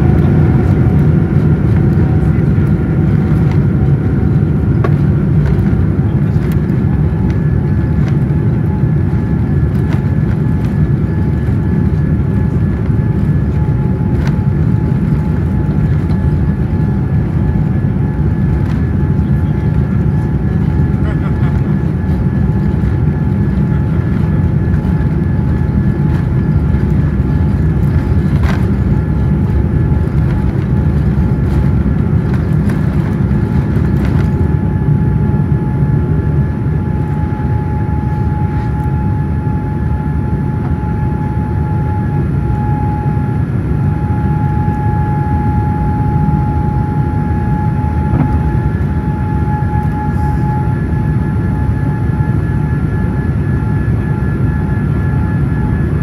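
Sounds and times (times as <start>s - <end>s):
jet engine cabin rumble: 0.0s - 56.0s
steady whine: 0.0s - 56.0s.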